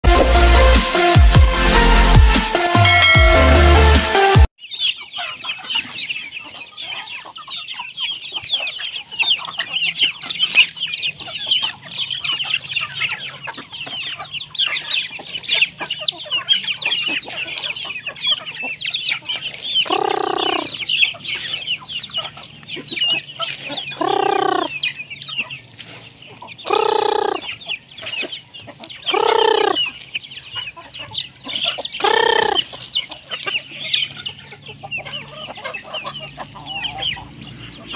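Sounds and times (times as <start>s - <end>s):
chickens peeping and chirping: 0.0s - 37.9s
roosters crowing: 4.9s - 27.8s, 28.6s - 37.9s.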